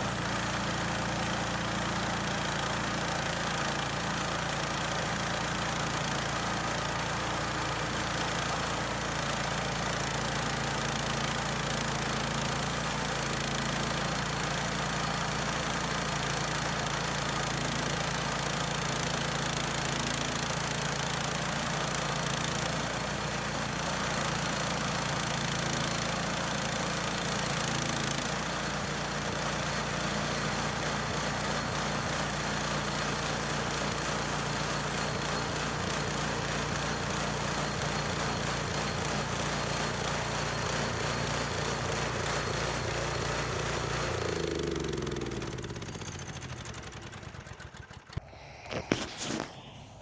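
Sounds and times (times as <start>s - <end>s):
small gasoline engine running: 0.0s - 50.0s.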